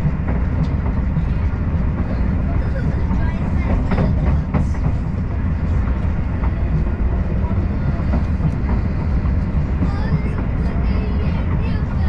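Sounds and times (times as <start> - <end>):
train running on rails: 0.0 - 12.0.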